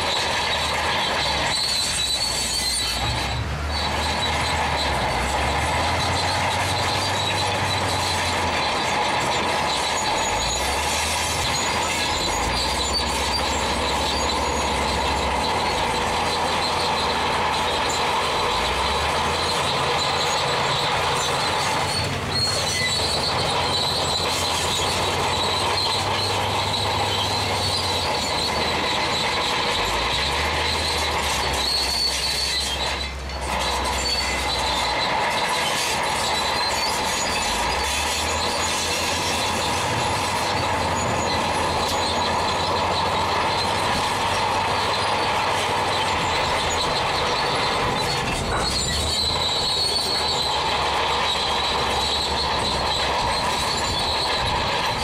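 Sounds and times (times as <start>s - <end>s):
diesel engine: 0.0s - 55.0s
steel tracks squealing and clanking: 0.0s - 55.0s.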